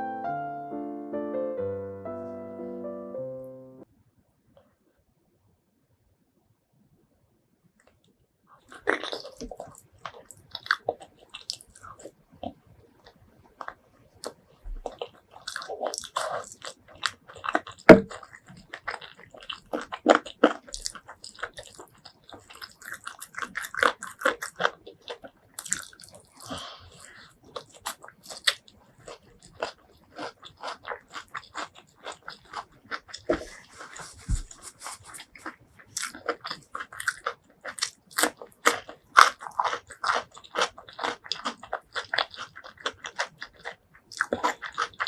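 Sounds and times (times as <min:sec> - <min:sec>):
close biting and chewing crunches: 0:08.6 - 0:45.0.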